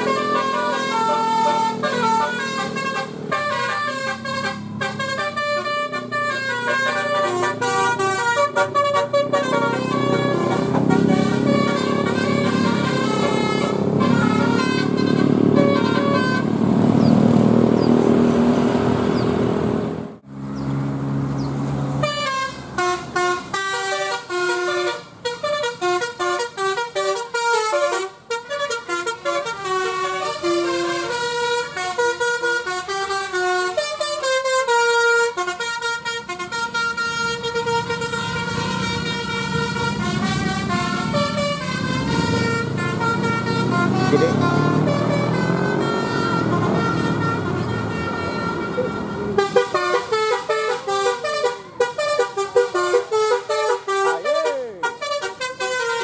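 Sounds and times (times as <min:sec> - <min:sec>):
musical bus horn tune: 0:00.0 - 0:17.1, 0:21.9 - 0:56.0
bus engine running: 0:00.0 - 0:56.0.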